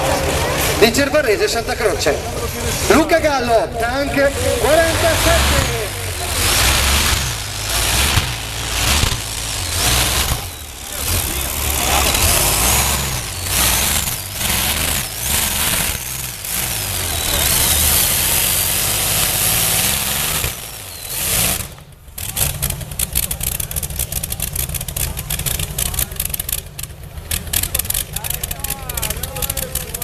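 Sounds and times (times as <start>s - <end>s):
engine running at full throttle: 0.0s - 30.0s
exhaust popping crackle: 0.0s - 30.0s.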